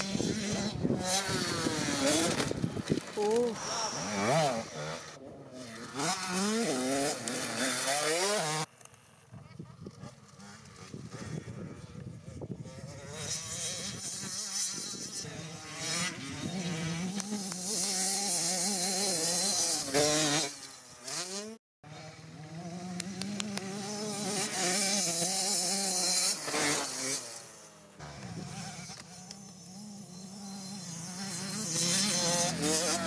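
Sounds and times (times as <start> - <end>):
two-stroke dirt bike engine buzzing: 0.0 - 33.0.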